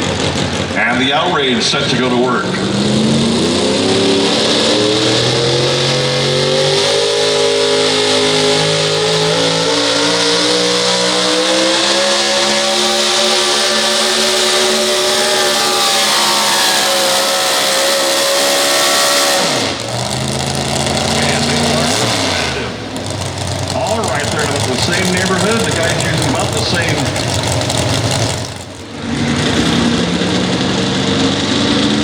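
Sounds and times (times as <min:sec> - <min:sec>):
engine at full throttle under load: 0:00.0 - 0:32.0.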